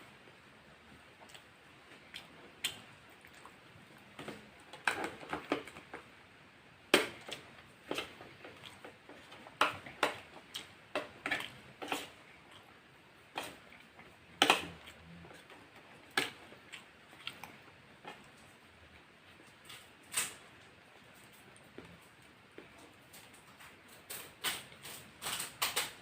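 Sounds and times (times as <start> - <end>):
chewing crispy fried chicken: 1.0 - 6.1, 7.1 - 26.0.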